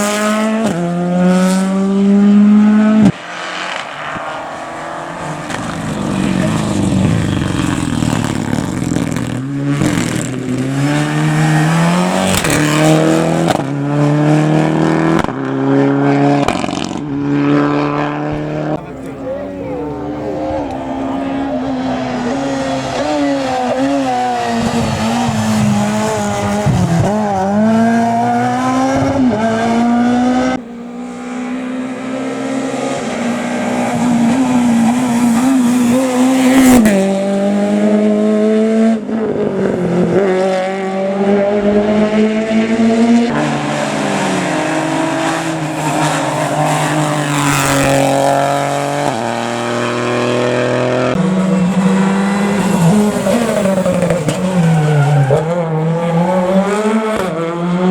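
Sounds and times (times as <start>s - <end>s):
rally car engines revving: 0.0s - 57.9s.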